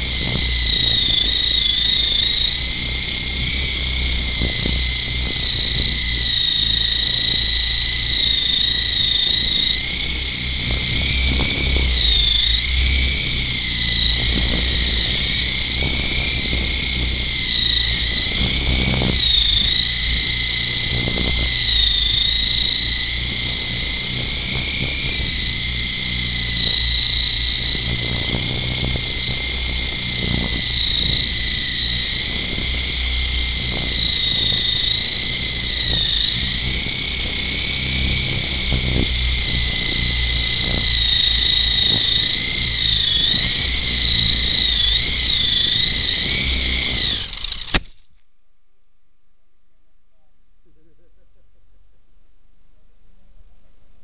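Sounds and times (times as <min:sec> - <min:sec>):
wind buffeting microphone: 0:00.0 - 0:47.4
model helicopter motor whine: 0:00.0 - 0:48.2.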